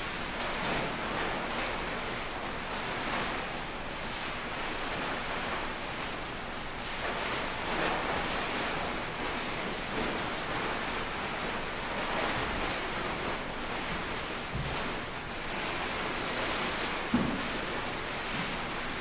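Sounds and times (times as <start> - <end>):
crinkly sheets rustling: 0.2 - 19.0.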